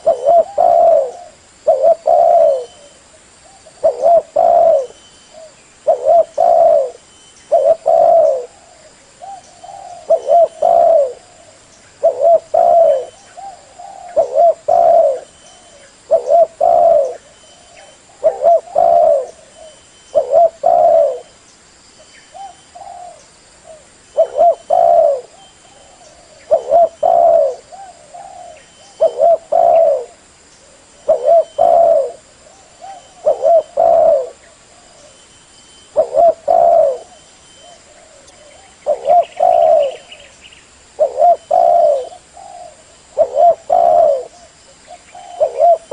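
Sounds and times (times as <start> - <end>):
dove cooing: 0.0 - 21.4, 22.3 - 35.2, 35.9 - 40.3, 40.9 - 45.9.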